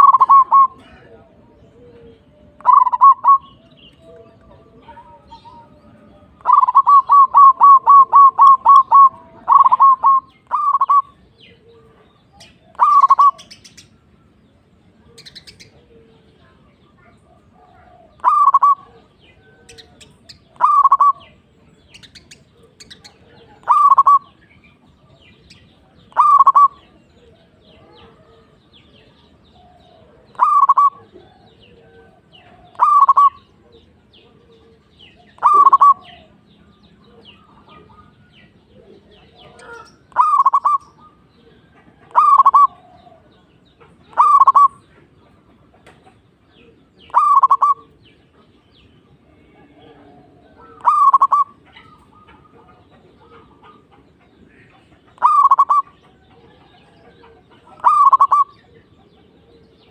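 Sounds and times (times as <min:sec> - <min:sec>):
dove cooing: 0:00.0 - 0:13.6, 0:14.9 - 0:24.4, 0:25.8 - 0:36.4, 0:37.1 - 0:45.1, 0:46.5 - 0:48.5, 0:49.4 - 0:59.9.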